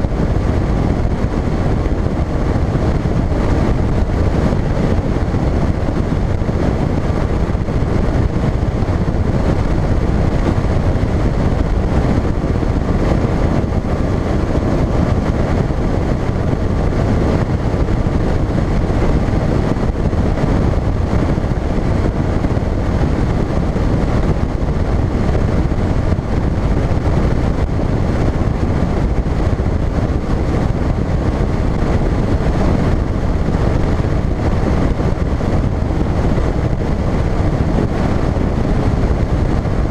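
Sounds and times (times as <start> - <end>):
outboard motor running: 0.0 - 39.9
wind rushing on microphone: 0.0 - 39.9.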